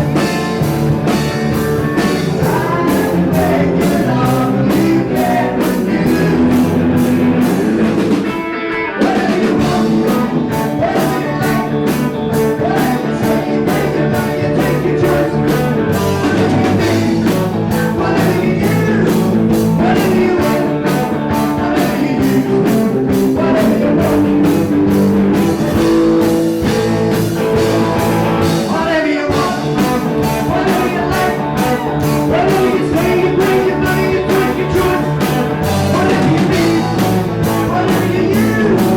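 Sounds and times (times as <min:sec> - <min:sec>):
person singing: 0:00.0 - 0:26.8, 0:28.3 - 0:38.9
drum kit beat: 0:00.0 - 0:38.9
live rock band playing: 0:00.0 - 0:38.9.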